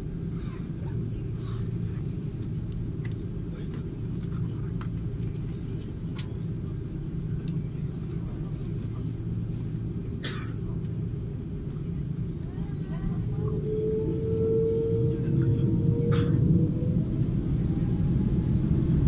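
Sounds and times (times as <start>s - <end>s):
airplane taxiing rumble in cabin: 0.0s - 19.0s.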